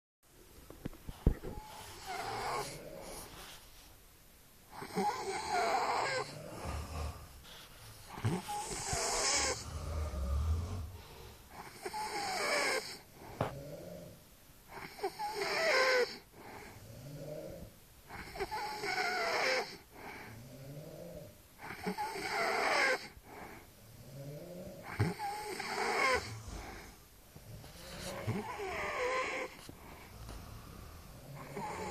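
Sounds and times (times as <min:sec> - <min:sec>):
quiet breathing: 0:00.4 - 0:31.9
heavy snoring: 0:01.6 - 0:03.6, 0:04.7 - 0:31.9.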